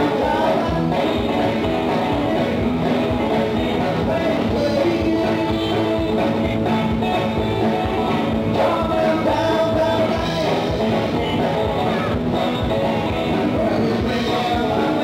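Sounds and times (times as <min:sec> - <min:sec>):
bass: 0:00.0 - 0:15.0
drums with steady beat: 0:00.0 - 0:15.0
electric guitars: 0:00.0 - 0:15.0.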